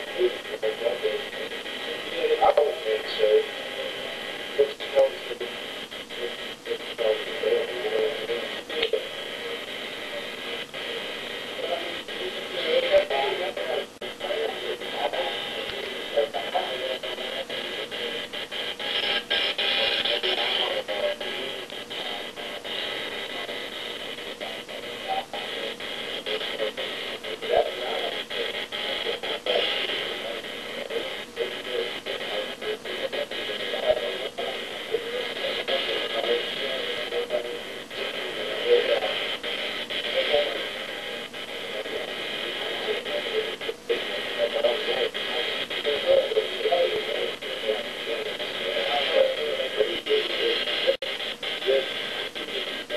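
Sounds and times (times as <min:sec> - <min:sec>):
muffled radio: 0:00.0 - 0:52.9.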